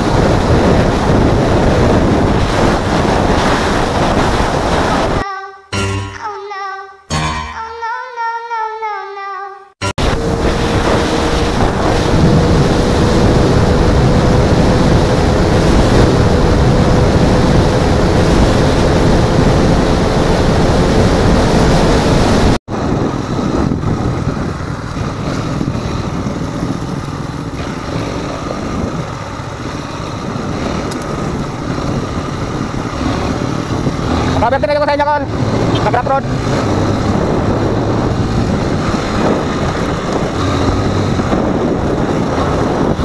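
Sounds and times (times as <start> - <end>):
motorcycle engine whine: 0.0 - 5.2, 9.7 - 43.0
wind buffeting microphone: 0.0 - 5.2, 10.0 - 43.0.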